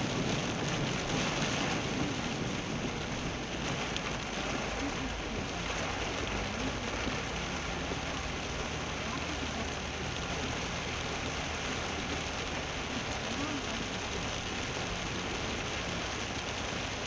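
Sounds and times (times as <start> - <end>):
engine and tyres rumble: 0.0 - 17.0
heavy rain on car: 0.0 - 17.0.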